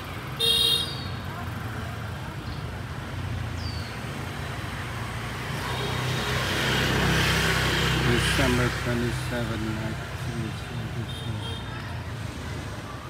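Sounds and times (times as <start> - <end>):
passing vehicles engine hum: 0.0 - 13.0.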